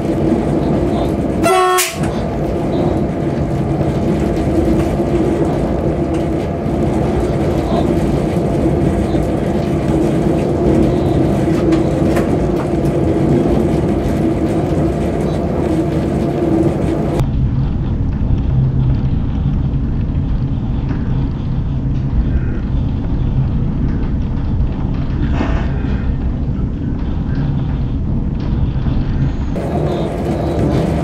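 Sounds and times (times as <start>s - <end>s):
constant hum: 0.0s - 31.0s
train rumbling along track: 0.0s - 31.0s.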